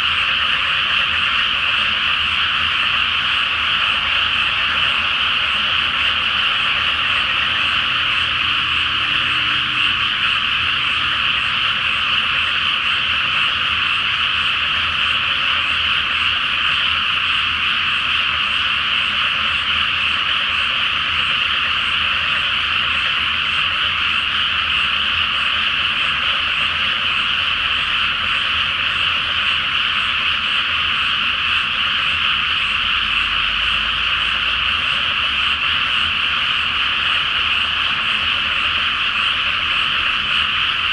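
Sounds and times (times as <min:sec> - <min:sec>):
frogs croaking in chorus: 0:00.0 - 0:40.9.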